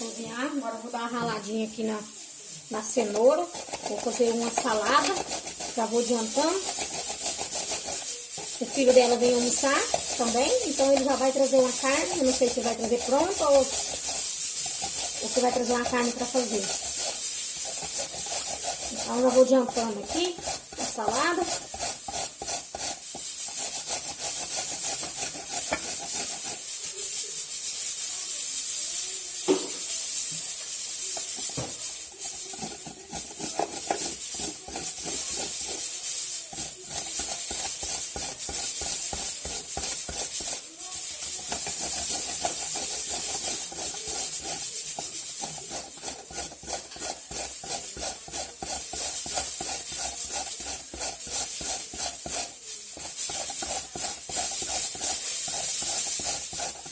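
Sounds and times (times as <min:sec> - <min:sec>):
carrots grated on a grater: 0:02.4 - 0:56.9.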